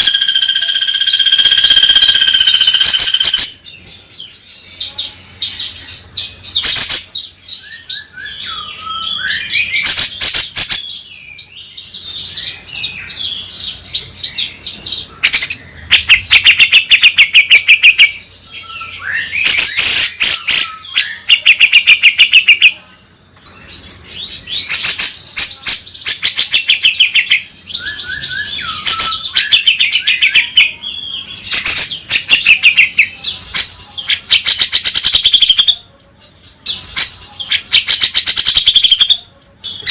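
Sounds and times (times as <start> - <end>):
bird singing chirps and whistles: 0.0 - 22.8, 23.8 - 36.2, 37.0 - 39.9.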